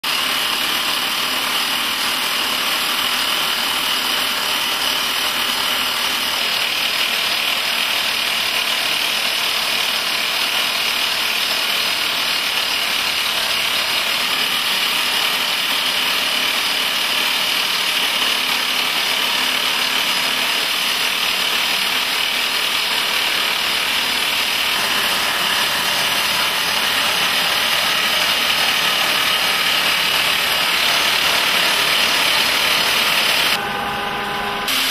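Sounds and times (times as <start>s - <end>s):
rock drill drilling: 0.0s - 33.6s.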